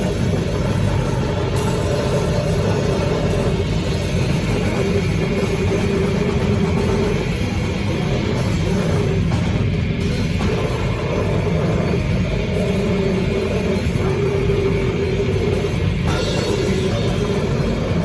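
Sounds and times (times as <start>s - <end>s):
heavily distorted metal music: 0.0s - 18.0s.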